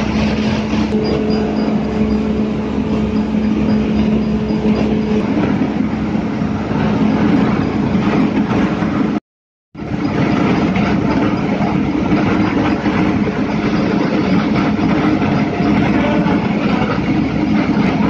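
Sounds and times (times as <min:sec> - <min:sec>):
mill machinery rattling: 0:00.0 - 0:09.2, 0:09.8 - 0:18.0.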